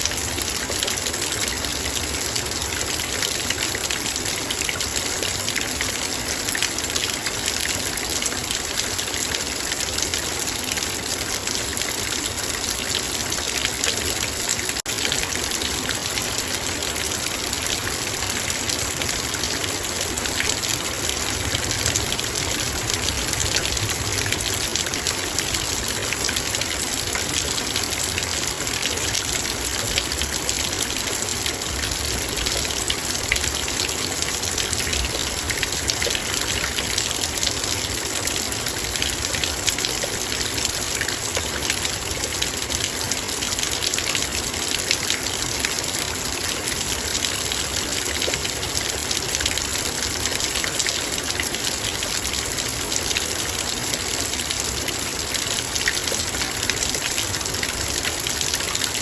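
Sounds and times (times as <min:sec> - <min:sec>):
heavy rain on a metal bowl: 0:00.0 - 0:59.0.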